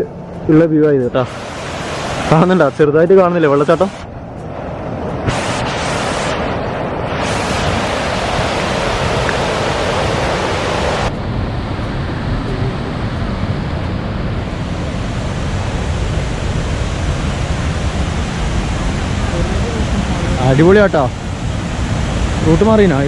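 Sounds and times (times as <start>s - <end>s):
waterfall rushing water: 0.0s - 23.0s
wind buffeting microphone: 0.0s - 23.0s.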